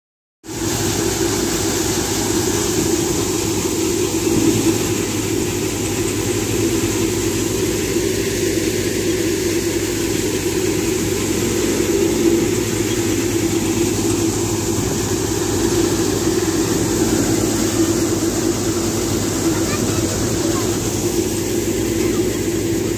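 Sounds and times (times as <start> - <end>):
thresher machine humming: 0.4 - 22.9.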